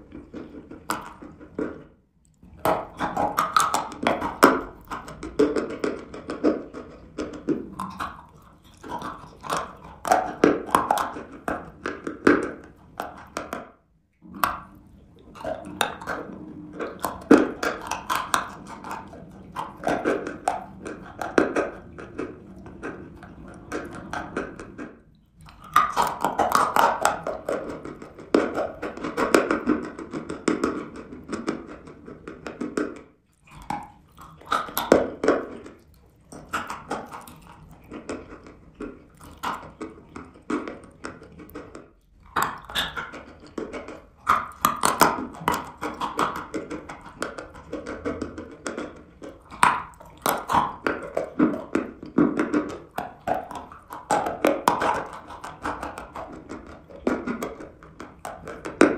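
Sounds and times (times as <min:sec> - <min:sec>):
wet sticky mouth sounds: 0:00.0 - 0:58.9.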